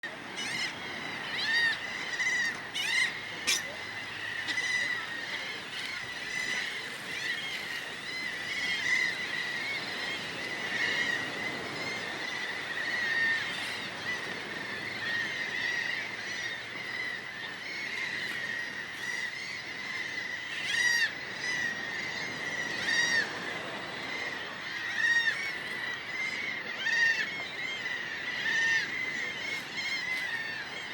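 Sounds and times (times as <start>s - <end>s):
flock of birds calling: 0.0s - 30.9s.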